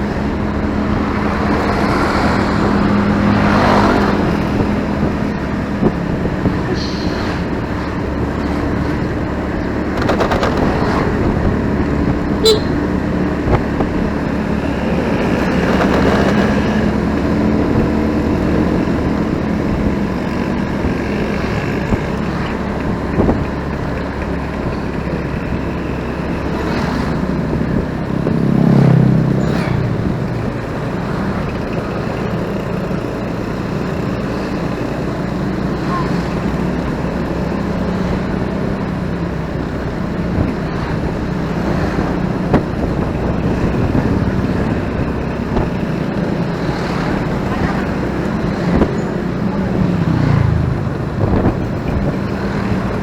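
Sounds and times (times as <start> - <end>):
wind noise: 0.0 - 32.1, 36.8 - 53.0
motorcycle engine running: 0.0 - 53.0
traffic noise: 0.0 - 53.0.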